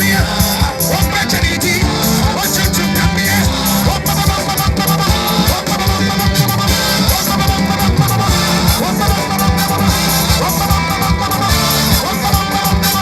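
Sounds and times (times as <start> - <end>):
guitar: 0.0 - 13.0
heavy drum beat: 0.0 - 13.0
live praise band music: 0.0 - 13.0.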